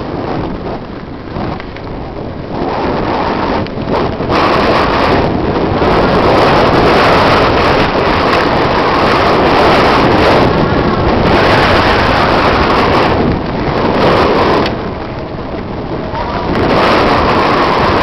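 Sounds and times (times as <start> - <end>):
bike rattling over dirt trail: 0.0 - 18.0
wind buffeting microphone: 0.0 - 18.0.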